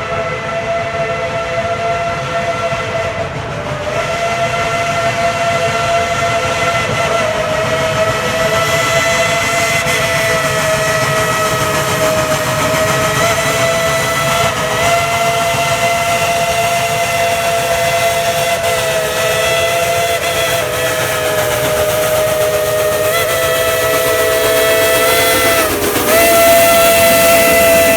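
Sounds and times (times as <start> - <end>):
steam hissing: 0.0 - 27.9
steam locomotive whistle blast: 0.0 - 27.9.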